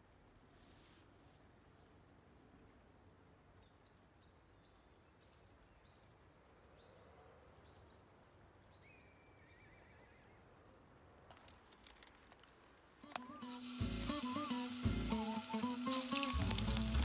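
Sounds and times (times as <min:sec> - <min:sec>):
quiet outdoor hiss: 0:00.0 - 0:17.0.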